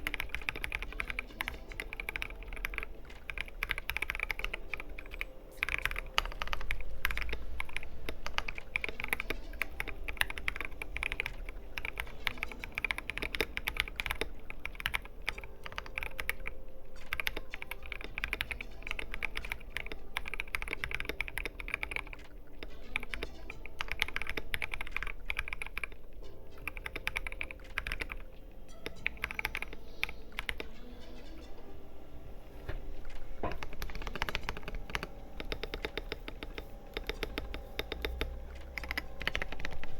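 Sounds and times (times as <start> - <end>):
mechanical keyboard typing: 0.0 - 31.6, 32.6 - 39.9.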